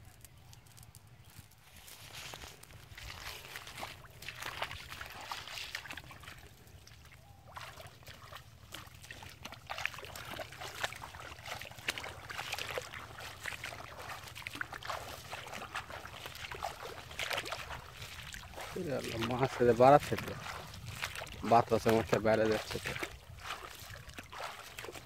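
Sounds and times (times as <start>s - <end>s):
person wading through water: 1.7s - 25.0s.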